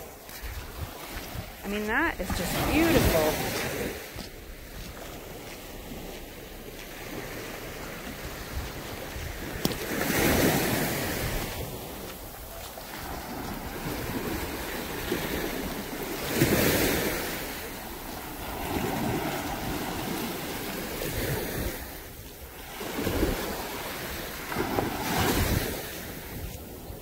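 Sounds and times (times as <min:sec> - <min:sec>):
surf washing onto beach: 0:00.0 - 0:27.0
wind buffeting microphone: 0:00.0 - 0:27.0.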